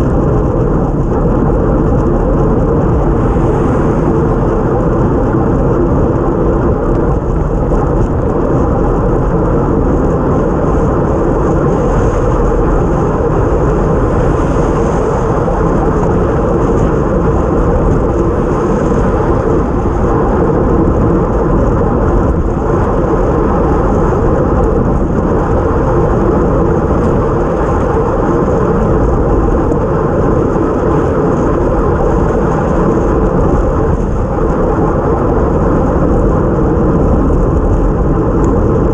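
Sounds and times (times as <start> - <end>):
bike road noise on wet road: 0.0 - 38.9
wind rushing: 0.0 - 38.9.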